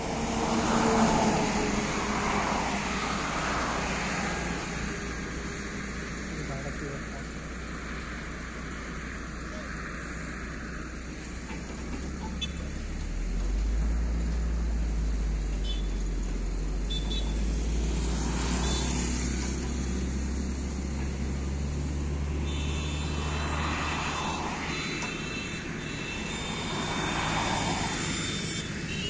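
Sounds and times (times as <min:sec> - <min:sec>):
heavy diesel vehicles rumbling: 0:00.0 - 0:29.0
road traffic noise: 0:00.0 - 0:29.0.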